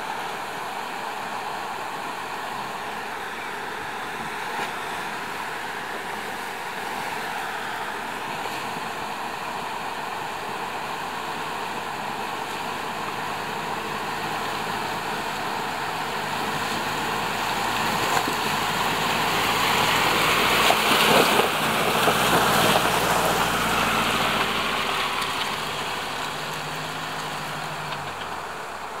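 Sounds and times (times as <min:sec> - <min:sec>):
tyres splashing through water: 0:00.0 - 0:29.0
vehicle engine running: 0:00.0 - 0:29.0.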